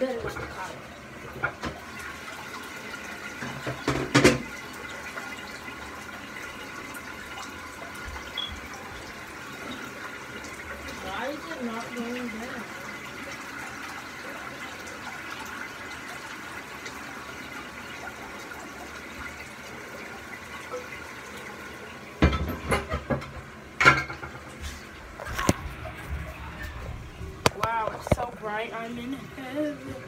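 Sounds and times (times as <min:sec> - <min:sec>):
toilet flushing: 0:00.0 - 0:30.0.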